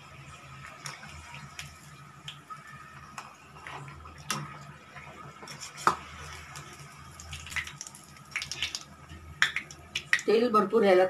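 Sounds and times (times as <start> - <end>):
dough sizzling in hot oil: 0.0 - 10.8.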